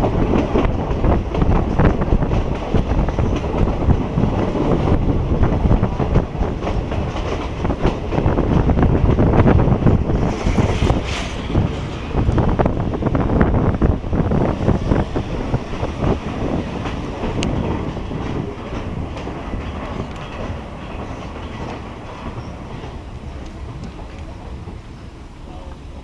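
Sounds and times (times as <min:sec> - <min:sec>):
train wheels clattering: 0:00.0 - 0:25.9.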